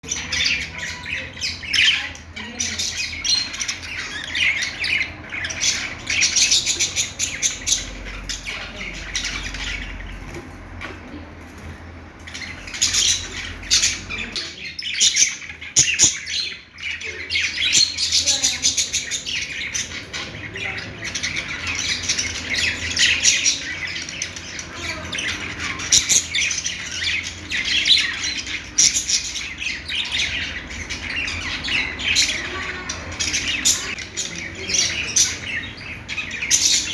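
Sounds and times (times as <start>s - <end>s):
budgerigars chattering: 0.0s - 36.9s.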